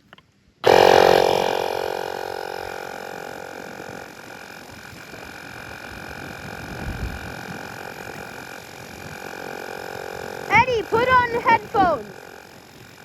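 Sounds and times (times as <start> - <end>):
air compressor motor humming: 0.6 - 13.0.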